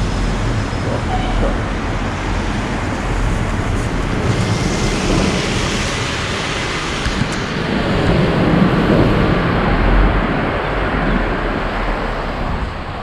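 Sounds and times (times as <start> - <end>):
rain: 0.0 - 13.0
wind on microphone: 0.0 - 13.0.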